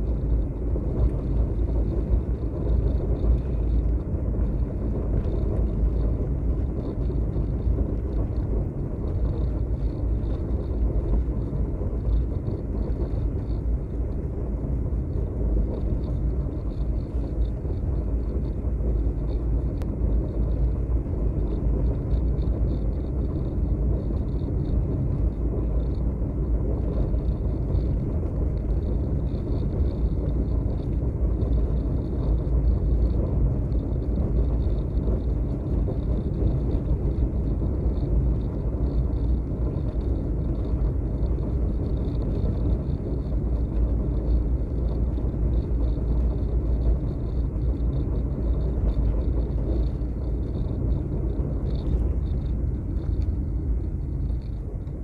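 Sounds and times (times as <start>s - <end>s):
wind and road noise rumble: 0.0s - 55.0s.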